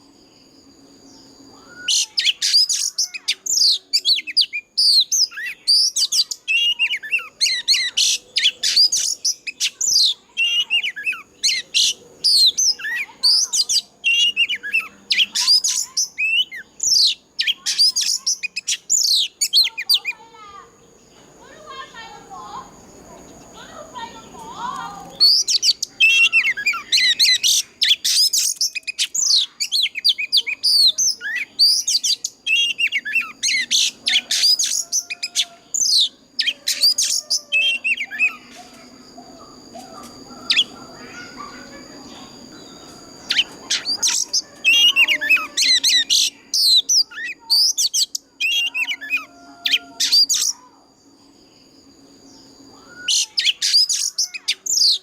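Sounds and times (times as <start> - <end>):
bird singing whistled notes: 0.0 - 20.2, 24.6 - 55.0.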